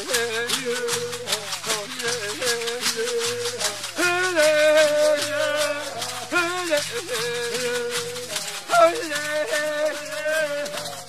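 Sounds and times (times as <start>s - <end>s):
shaken rattle: 0.0s - 11.0s.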